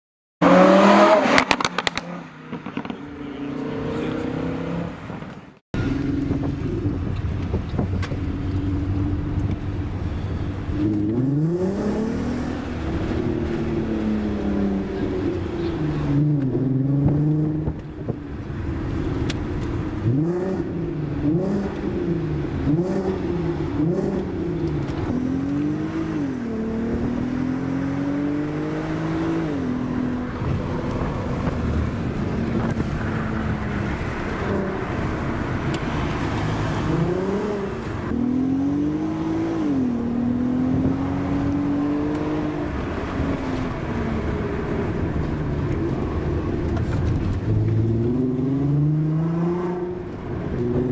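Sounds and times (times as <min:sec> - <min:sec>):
car engine revving: 0:00.4 - 0:50.9.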